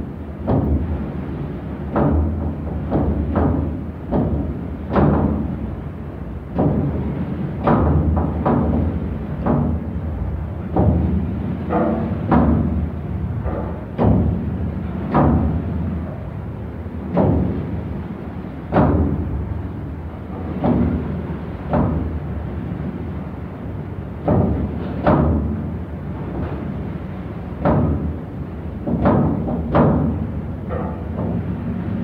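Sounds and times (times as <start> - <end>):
low ship drone: 0.0 - 32.0
waves booming against steel hull: 0.0 - 32.0.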